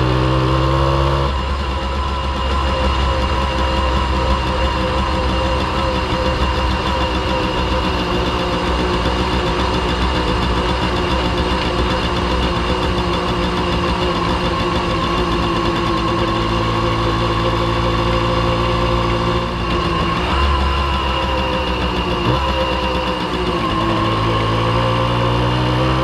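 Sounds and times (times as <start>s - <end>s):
moped engine idling: 0.0s - 25.0s.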